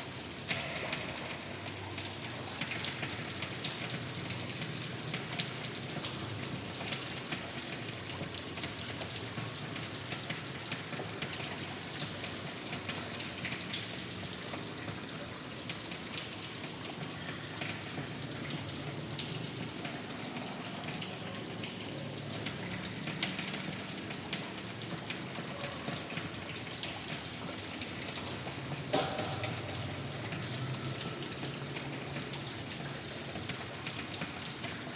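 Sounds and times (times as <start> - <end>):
louder raindrops: 0.0 - 34.9
steady rain falling: 0.0 - 34.9.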